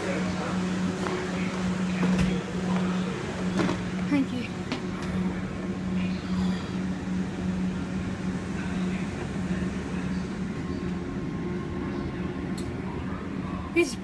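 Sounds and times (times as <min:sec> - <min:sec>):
train equipment low hum: 0:00.0 - 0:14.0.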